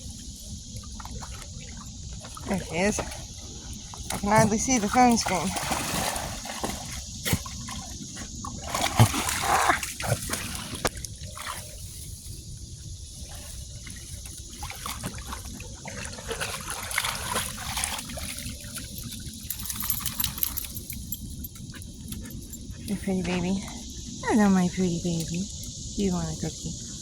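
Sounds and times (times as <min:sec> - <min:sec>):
water trickling and splashing: 0:00.0 - 0:27.0.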